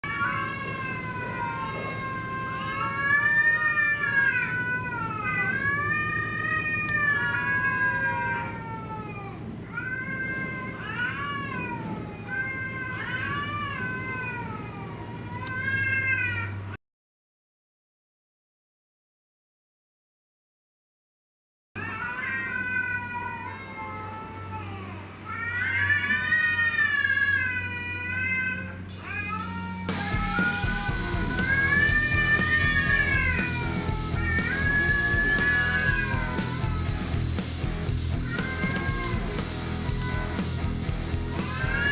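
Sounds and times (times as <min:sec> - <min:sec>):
cats caterwauling: 0:00.0 - 0:16.8, 0:21.8 - 0:41.9.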